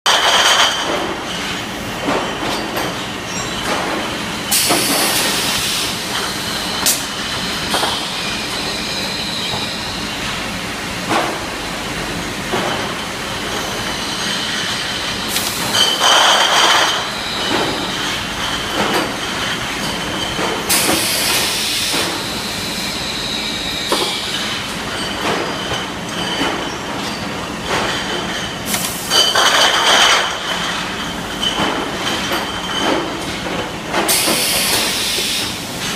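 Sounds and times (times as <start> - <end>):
mechanical clatter of machine: 0.1 - 8.7, 12.5 - 22.3, 23.9 - 35.9.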